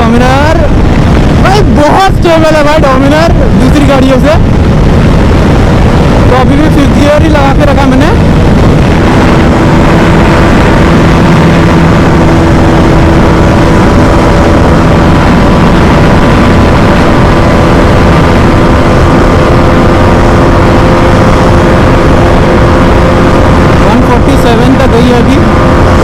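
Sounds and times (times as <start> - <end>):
motorcycle engine at high revs: 0.0 - 26.0
wind on microphone: 0.0 - 26.0.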